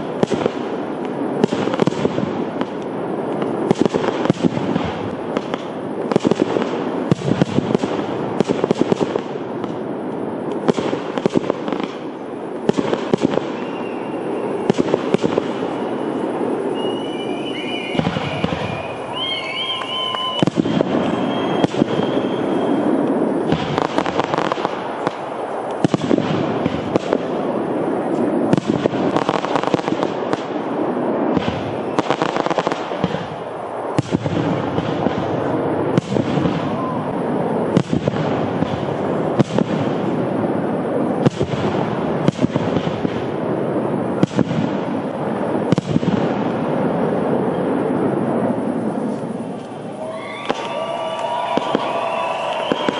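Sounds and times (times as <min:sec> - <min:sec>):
fireworks crackling rumble: 0:00.0 - 0:52.9
fireworks shells bursting: 0:00.0 - 0:52.9
wavering fireworks whistles: 0:00.0 - 0:52.9.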